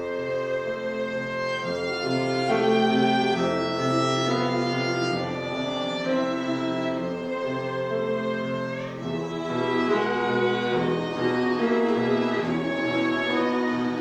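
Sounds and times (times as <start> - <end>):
bowed strings with violin: 0.0 - 14.0.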